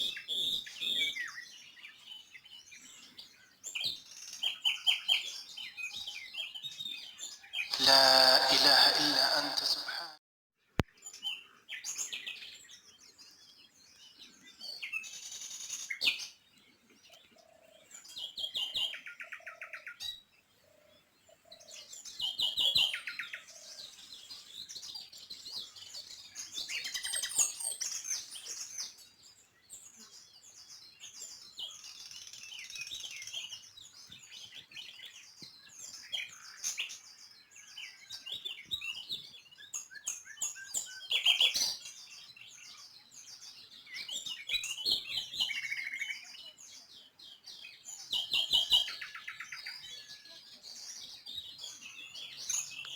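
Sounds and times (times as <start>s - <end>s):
songbirds chirping and singing: 0.0s - 10.1s, 11.0s - 52.9s.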